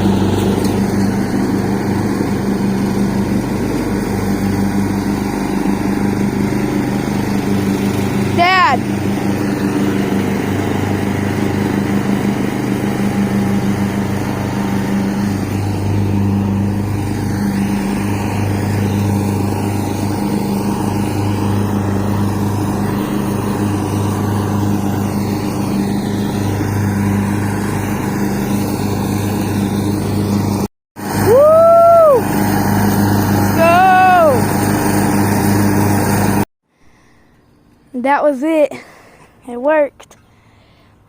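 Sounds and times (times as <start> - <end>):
riding lawn mower engine: 0.0 - 41.0.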